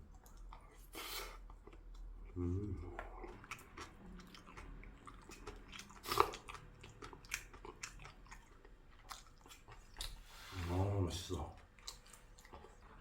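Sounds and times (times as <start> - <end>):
person chewing food: 0.0 - 10.6, 11.5 - 13.0.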